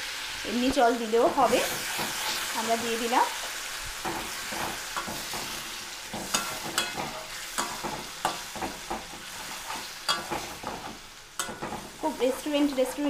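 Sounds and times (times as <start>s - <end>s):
liquid sizzling and bubbling: 0.0s - 13.0s
metal spatula scraping pan: 1.2s - 13.0s.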